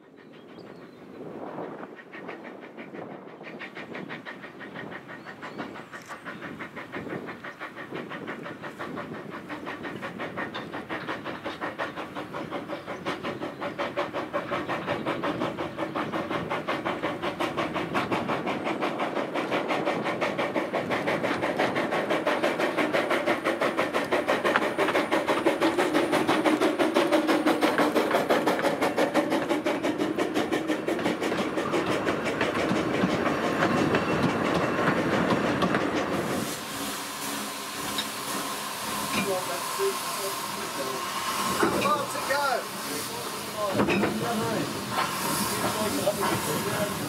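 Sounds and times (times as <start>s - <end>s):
steam locomotive chuffing: 0.0s - 47.0s.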